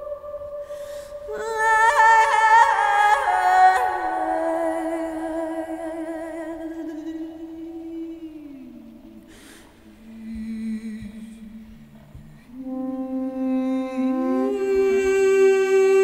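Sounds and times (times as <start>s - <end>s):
ensemble sliding held notes: 0.0s - 16.0s.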